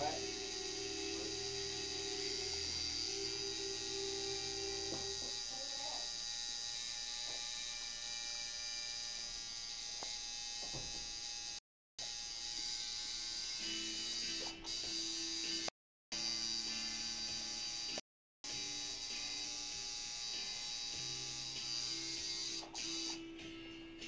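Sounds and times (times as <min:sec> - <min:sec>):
tattoo machine buzzing: 0:00.0 - 0:24.0.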